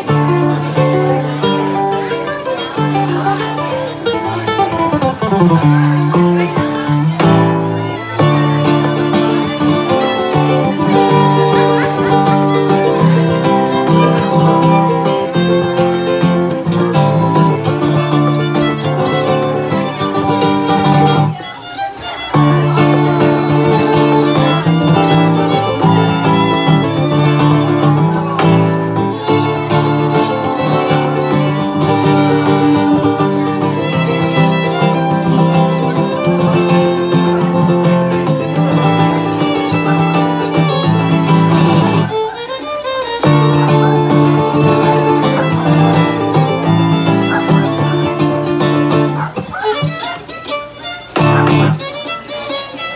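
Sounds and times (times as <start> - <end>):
strummed acoustic guitar: 0.0 - 52.9
violin melody: 0.0 - 52.9.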